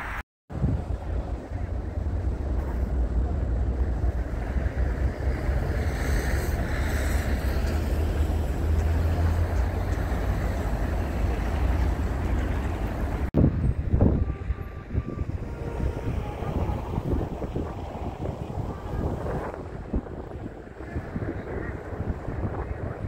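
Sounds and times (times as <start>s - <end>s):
wind buffeting a microphone: 0.5s - 23.0s.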